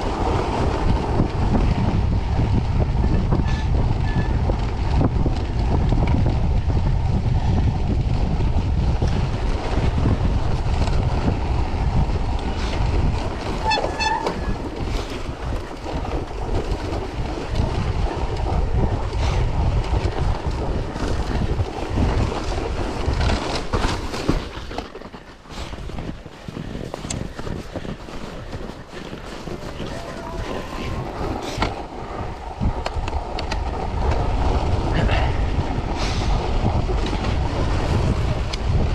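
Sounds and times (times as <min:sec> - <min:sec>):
bike tyres rumbling on snow: 0:00.0 - 0:38.9
wind on microphone: 0:00.0 - 0:38.9.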